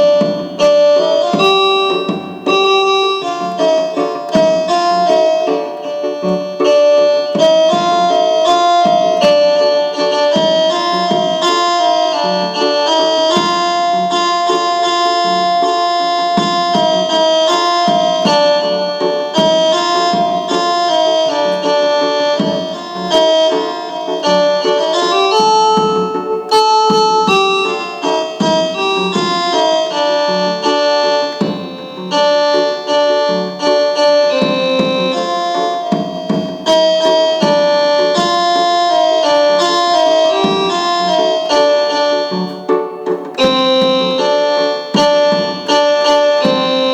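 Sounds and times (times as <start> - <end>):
keyboard reed pipe melody: 0.0 - 46.9
low keyboard accompaniment: 0.0 - 46.9.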